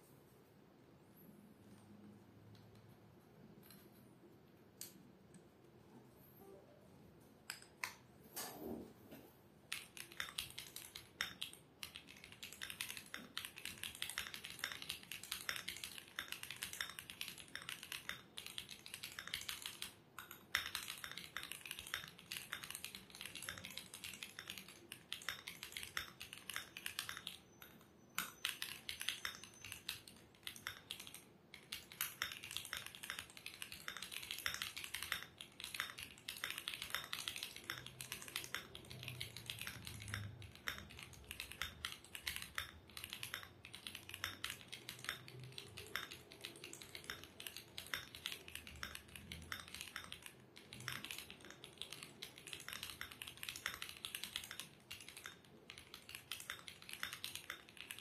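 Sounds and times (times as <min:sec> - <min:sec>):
fast typing on mechanical keyboard: 0:09.6 - 0:58.0.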